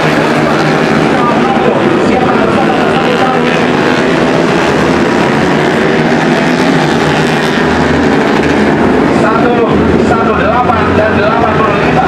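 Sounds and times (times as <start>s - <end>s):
racing motorcycle engines running: 0.0s - 12.0s.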